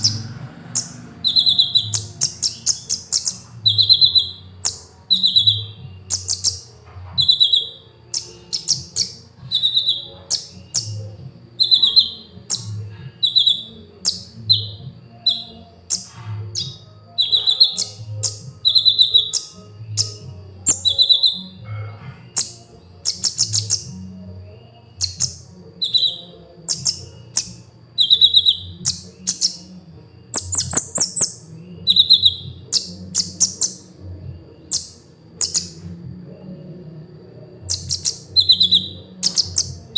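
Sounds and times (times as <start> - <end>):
bird chirping: 0.0 - 39.9
faint low hum: 0.0 - 39.9.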